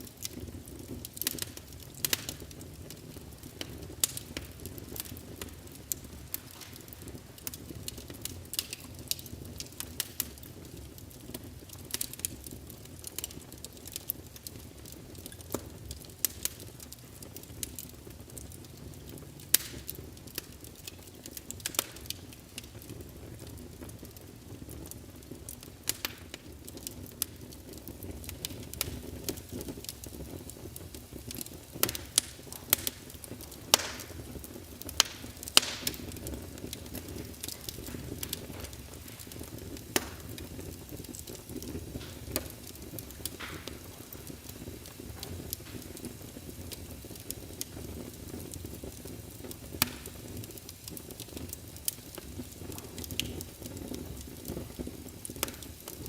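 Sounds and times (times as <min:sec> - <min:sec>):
fireplace crackling: 0:00.0 - 0:56.0.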